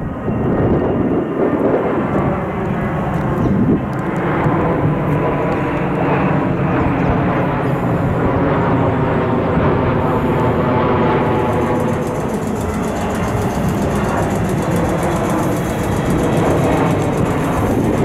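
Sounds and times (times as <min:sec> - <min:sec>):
jet airliner passing overhead: 0:00.0 - 0:18.0.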